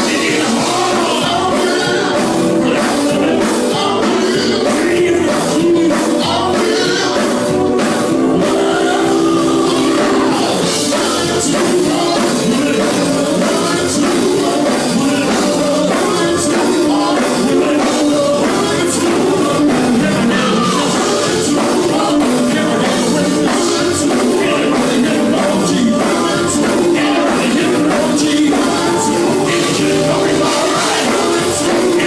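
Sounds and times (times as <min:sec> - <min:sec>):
gospel band playing: 0:00.0 - 0:32.0
singing: 0:00.0 - 0:32.0
steady drum beat: 0:00.0 - 0:32.0.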